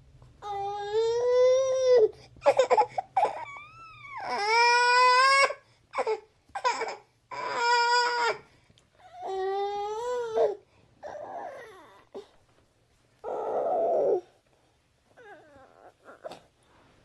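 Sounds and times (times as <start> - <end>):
baby cooing and crying: 0.4 - 12.4, 13.2 - 14.4, 15.2 - 16.5.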